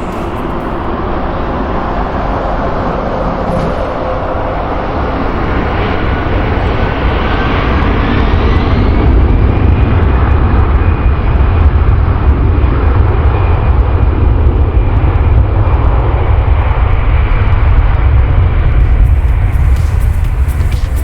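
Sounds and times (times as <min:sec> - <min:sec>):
jet engines rumbling and whining: 0:00.0 - 0:21.0.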